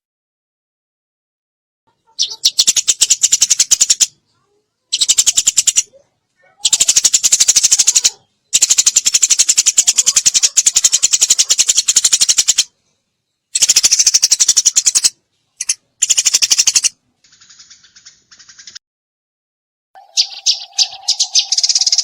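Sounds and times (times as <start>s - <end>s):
sparrow chirping: 1.9s - 18.8s, 20.0s - 22.0s.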